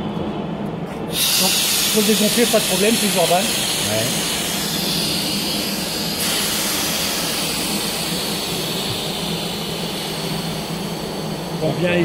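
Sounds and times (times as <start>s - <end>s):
air rushing out of valves: 1.0s - 12.0s.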